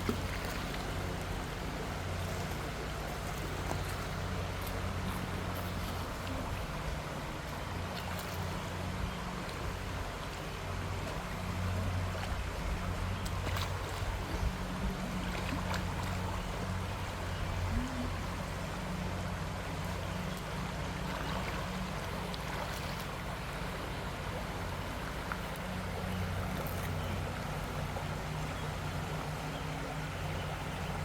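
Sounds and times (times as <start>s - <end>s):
creek water flowing: 0.0s - 31.0s
low steady hum: 0.0s - 31.0s.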